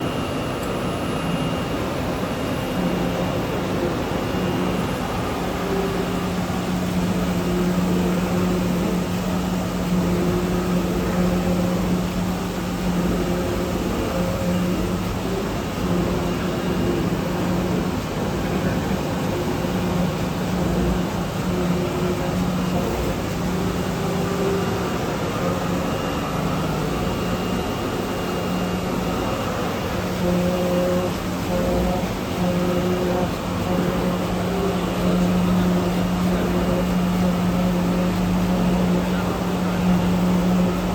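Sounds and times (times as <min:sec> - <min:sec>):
cutting machine humming: 0:01.7 - 0:40.9.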